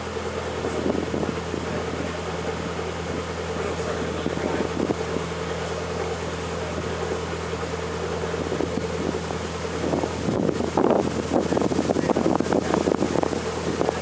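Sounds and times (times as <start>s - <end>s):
boat engine humming: 0.0s - 14.0s
wind buffeting microphone: 0.0s - 14.0s.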